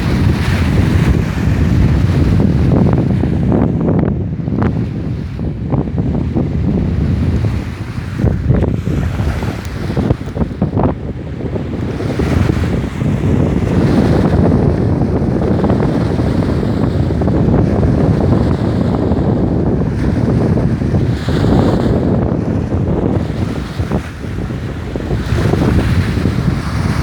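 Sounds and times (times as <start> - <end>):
lake waves: 0.0 - 27.0
wind buffeting microphone: 0.0 - 27.0.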